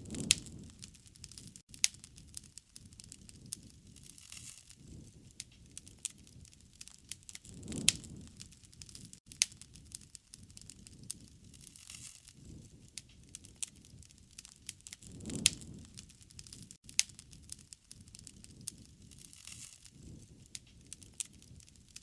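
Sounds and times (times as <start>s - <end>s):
low rushing of flame: 0.0s - 22.0s
wood fire crackling and popping: 0.0s - 22.0s.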